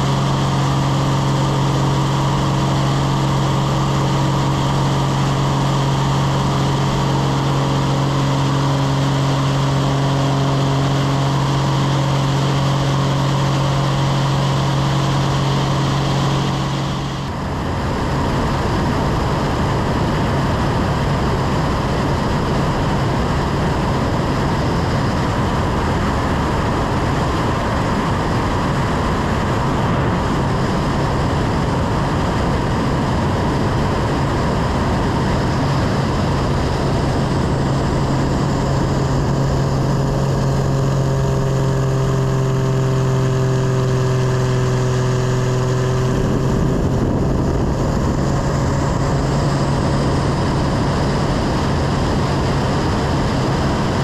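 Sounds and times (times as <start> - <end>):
plane engine and propeller: 0.0 - 54.0
wind rush: 0.0 - 54.0.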